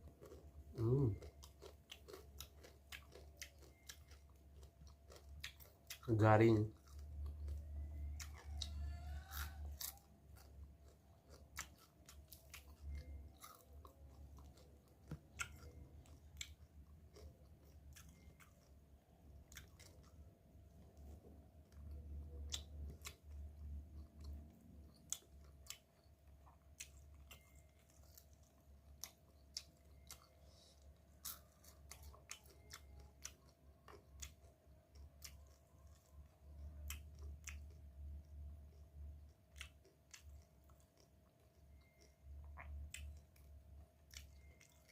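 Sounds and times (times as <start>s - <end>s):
chewing and crunching: 0.0s - 44.9s.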